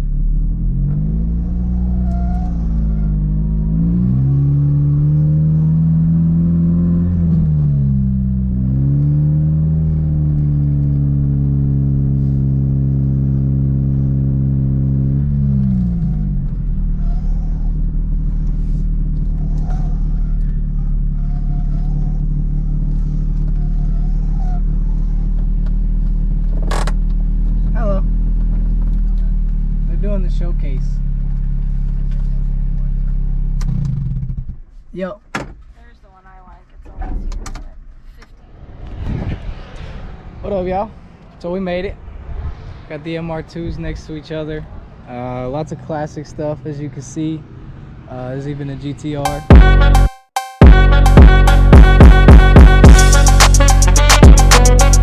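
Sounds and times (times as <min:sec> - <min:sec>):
car engine accelerating: 0:00.0 - 0:34.8, 0:36.8 - 0:55.0.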